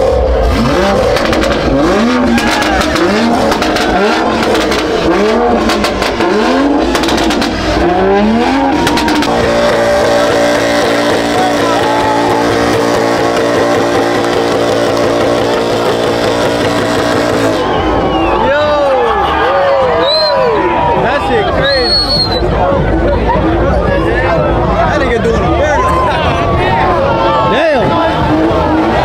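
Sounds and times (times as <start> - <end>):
car engine revving: 0.0 - 18.8, 20.9 - 29.0.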